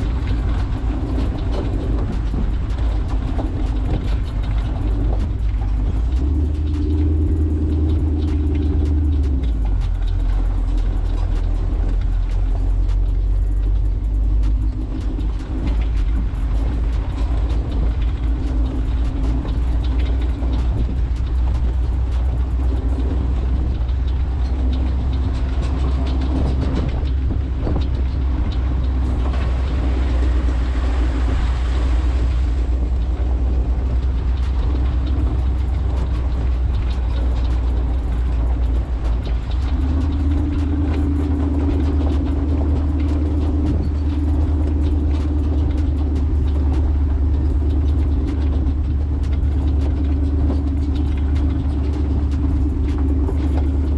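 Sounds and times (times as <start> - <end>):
car engine droning: 0.0 - 53.9
off-road ride noise: 0.0 - 53.9.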